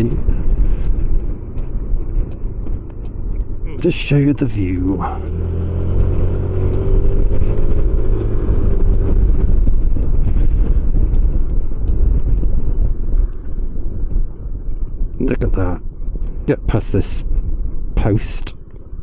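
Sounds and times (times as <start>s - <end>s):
motorcycle engine rumbling: 0.0s - 16.2s.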